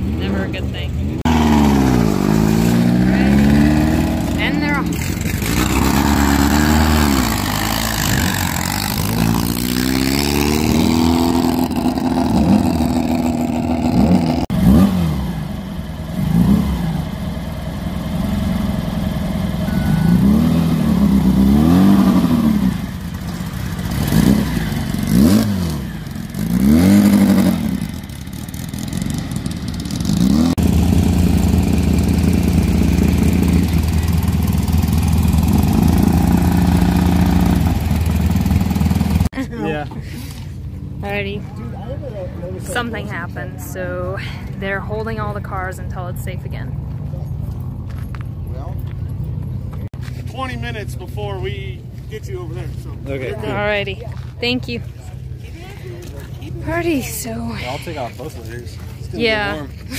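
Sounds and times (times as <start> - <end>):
car engines idling and revving: 0.0 - 59.9.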